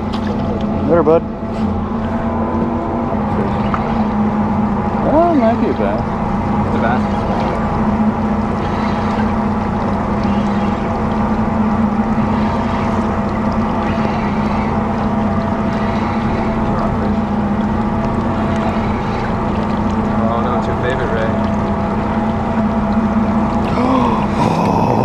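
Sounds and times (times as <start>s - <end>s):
outboard motor idling: 0.0s - 25.0s.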